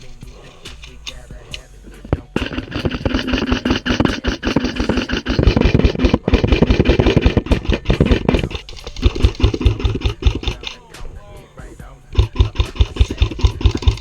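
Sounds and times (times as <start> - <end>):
motor and gearbox whir: 0.0 - 14.0.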